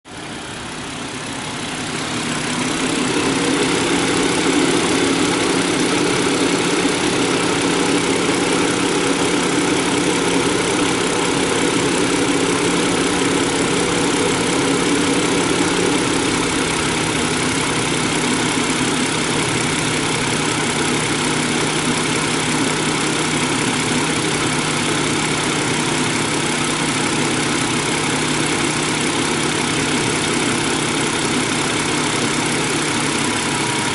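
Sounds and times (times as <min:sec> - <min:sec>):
car engine idling: 0:00.0 - 0:33.9
electric radiator fan running: 0:00.6 - 0:27.9.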